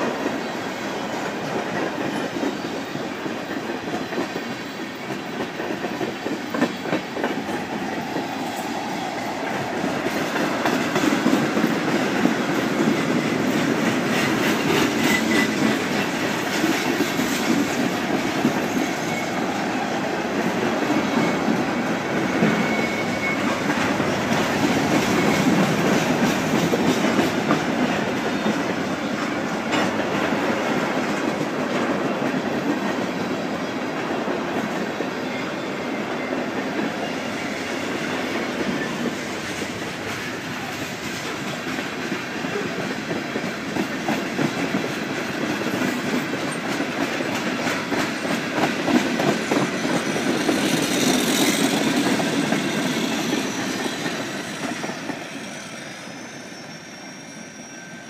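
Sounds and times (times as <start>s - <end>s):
freight train wheels clicking over joints: 0.0s - 55.4s.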